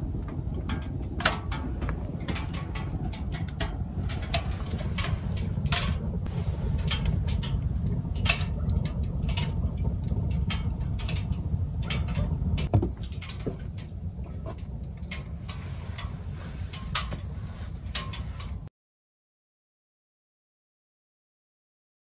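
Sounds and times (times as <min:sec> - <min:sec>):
wood fire crackling and popping: 0:00.0 - 0:18.7.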